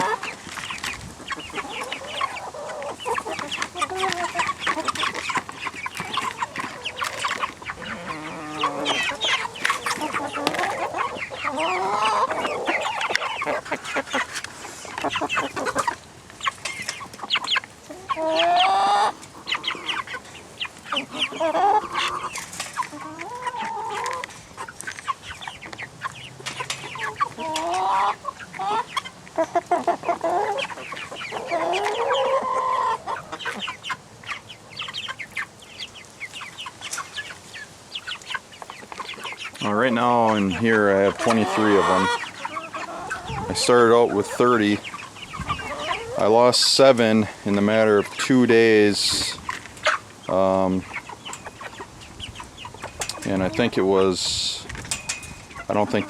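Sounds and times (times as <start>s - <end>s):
chickens clucking and peeping: 0.0s - 56.0s.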